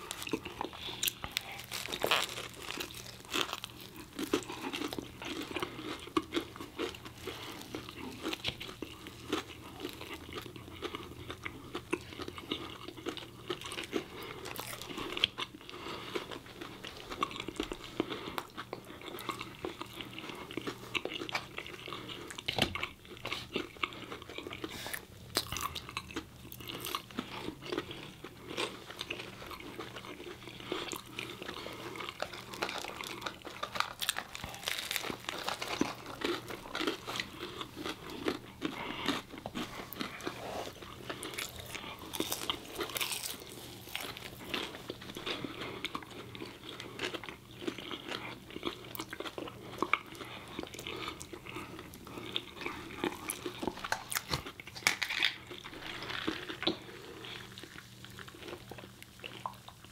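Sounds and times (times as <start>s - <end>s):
people chewing crunchy food: 0.0s - 59.9s.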